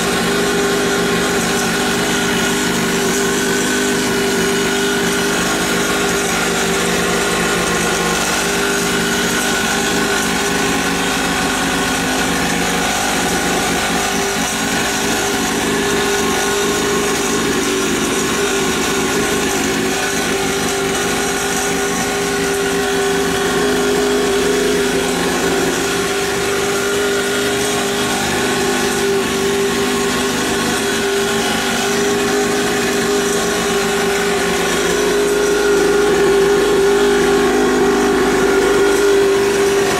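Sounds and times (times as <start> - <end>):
two-stroke dirt bike engine running: 0.0 - 39.9.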